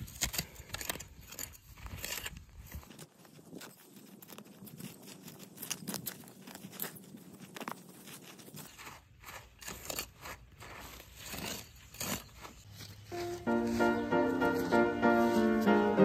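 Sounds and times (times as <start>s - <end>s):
crunch of loosened earth: 0.0s - 13.8s
hand hoe scraping dry soil: 0.0s - 16.0s.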